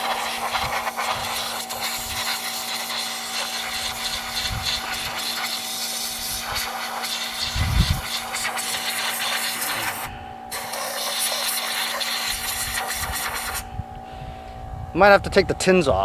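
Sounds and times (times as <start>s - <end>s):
compressed air hissing from blow gun: 0.0s - 13.7s
steady hum: 0.0s - 16.0s.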